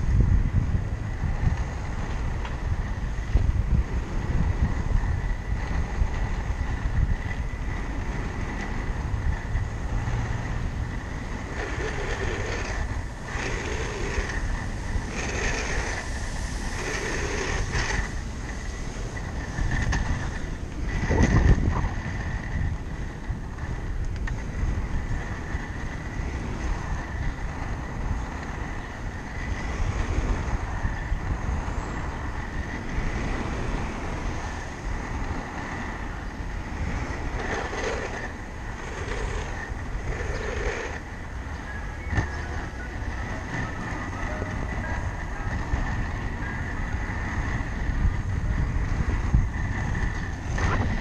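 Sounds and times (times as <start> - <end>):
skate wheels rolling on asphalt: 0.0 - 51.0
wind buffeting microphone: 0.0 - 51.0.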